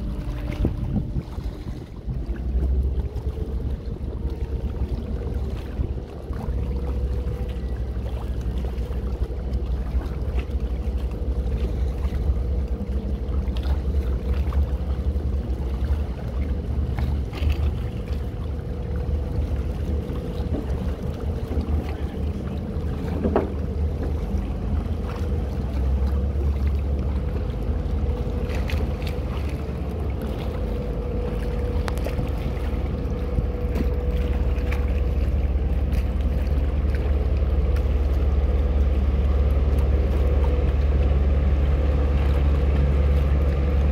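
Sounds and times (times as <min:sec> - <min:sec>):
boat engines rumbling: 0:00.0 - 0:43.9
steady engine whine: 0:00.0 - 0:43.9.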